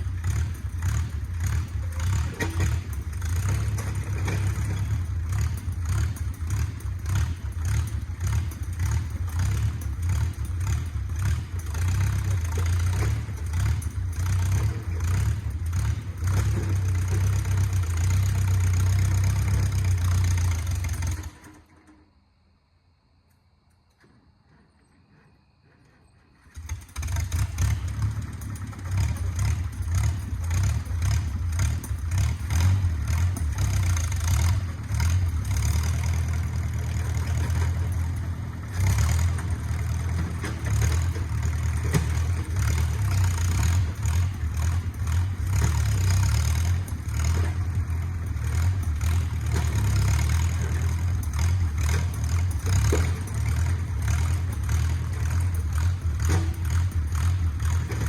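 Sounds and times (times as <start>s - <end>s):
bulldozer engine running: 0.0s - 22.1s, 24.0s - 58.0s.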